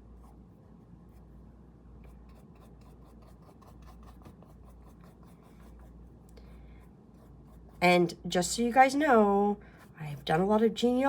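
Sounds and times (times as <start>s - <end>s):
low room hum: 0.0s - 11.0s
scratchy drawing tool strokes: 2.0s - 11.0s.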